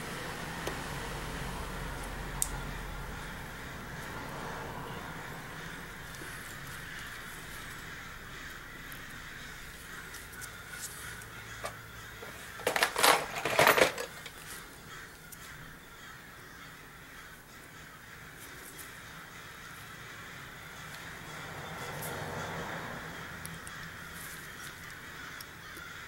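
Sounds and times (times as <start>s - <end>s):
bird cawing: 1.0s - 26.0s.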